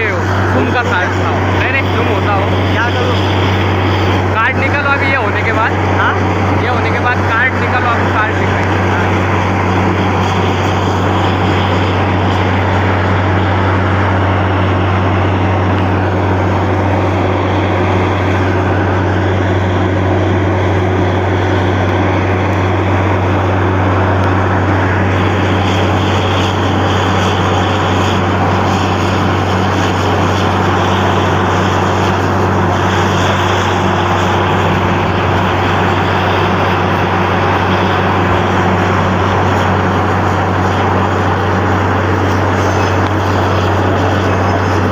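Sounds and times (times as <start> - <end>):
drilling rig droning: 0.0 - 44.9
rushing noise: 0.0 - 44.9.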